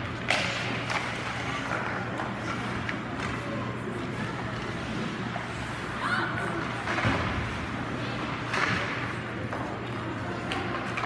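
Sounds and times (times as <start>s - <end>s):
indistinct voices and chatter: 0.0s - 11.0s.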